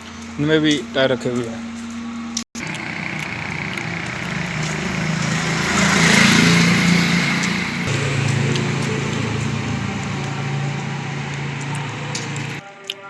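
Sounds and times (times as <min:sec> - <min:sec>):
small vehicle engine running: 0:00.0 - 0:12.6
road noise: 0:00.0 - 0:13.0.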